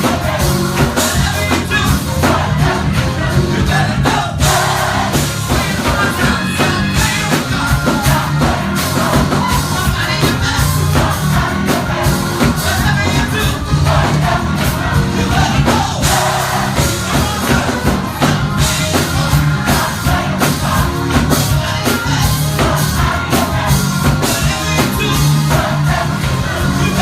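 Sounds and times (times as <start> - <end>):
band playing steady beat: 0.0 - 27.0
gospel choir singing: 0.0 - 27.0.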